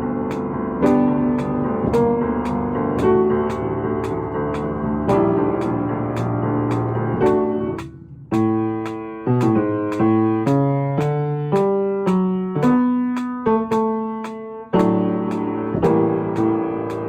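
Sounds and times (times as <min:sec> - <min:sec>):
piano playing: 0:00.0 - 0:17.0.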